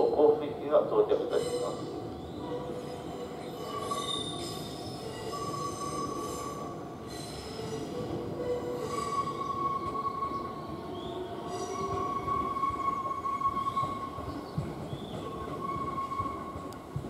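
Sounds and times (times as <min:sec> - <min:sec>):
train running gear rumble: 0:01.2 - 0:17.0
train wheels squealing: 0:01.2 - 0:17.0.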